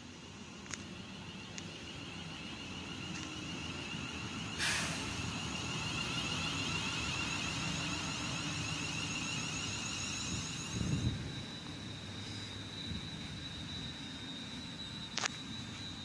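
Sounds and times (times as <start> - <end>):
high electric whine: 0.0 - 16.0
train wheels rumbling on rail: 0.0 - 16.0.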